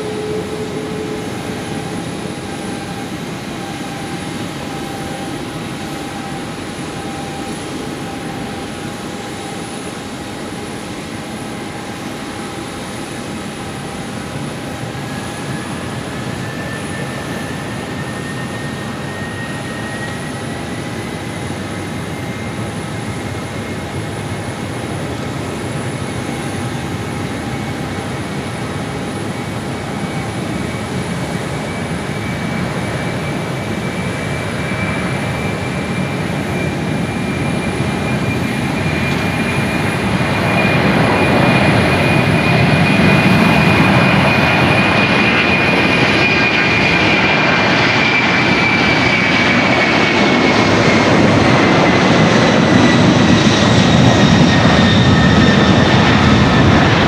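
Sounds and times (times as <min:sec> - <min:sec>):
high engine whine: 0:00.0 - 0:57.0
jet engines roaring at takeoff: 0:00.0 - 0:57.0.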